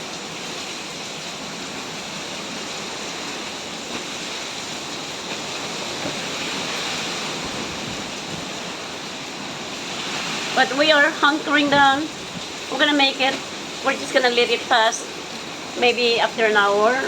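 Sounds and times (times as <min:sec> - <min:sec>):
wind driving heavy rain: 0:00.0 - 0:17.0.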